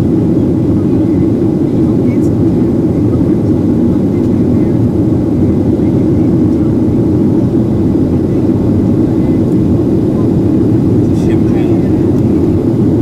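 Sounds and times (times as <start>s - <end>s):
jet engine low rumble: 0.0s - 13.0s.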